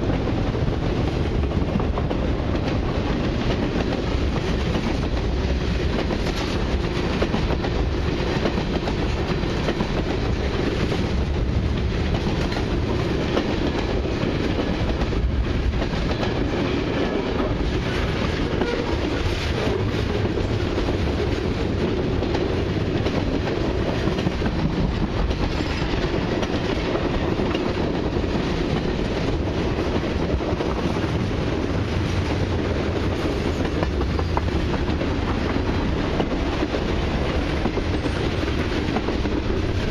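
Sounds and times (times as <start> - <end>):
clickety-clack of wheels on rails: 0.0 - 39.9
freight train rumbling past: 0.0 - 39.9.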